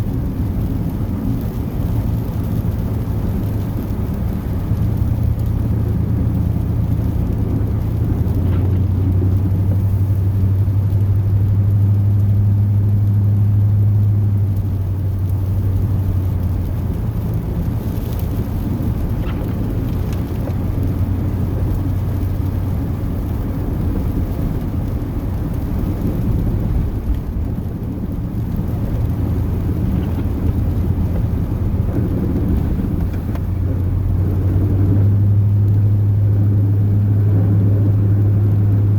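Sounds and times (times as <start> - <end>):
truck engine low drone: 0.0 - 38.9.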